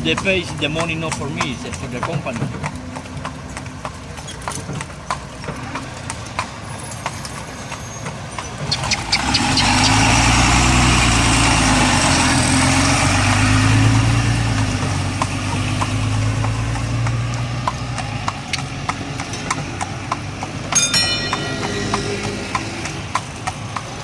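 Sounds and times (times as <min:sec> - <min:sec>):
horse hooves on pavement: 0:00.0 - 0:24.0.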